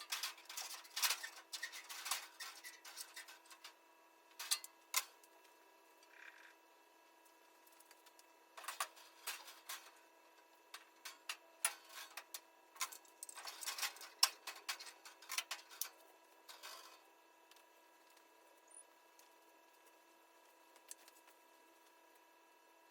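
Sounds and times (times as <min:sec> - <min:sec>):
faint electrical hum: 0:00.0 - 0:22.9.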